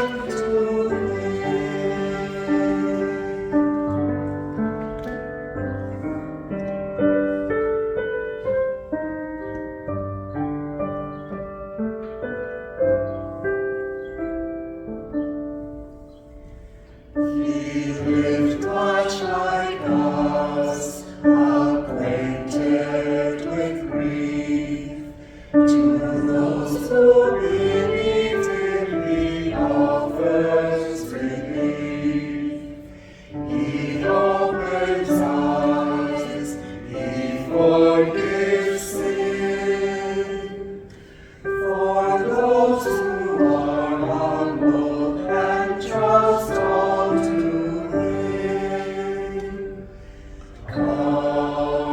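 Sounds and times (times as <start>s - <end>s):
choir singing a hymn: 0.0s - 9.7s, 10.3s - 51.9s
piano playing hymn: 0.0s - 51.9s.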